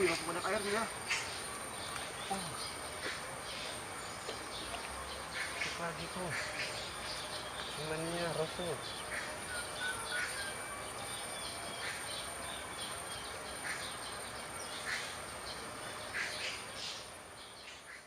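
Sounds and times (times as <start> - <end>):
birds chirping: 0.0 - 18.0
steady high-pitched whine: 0.0 - 18.0.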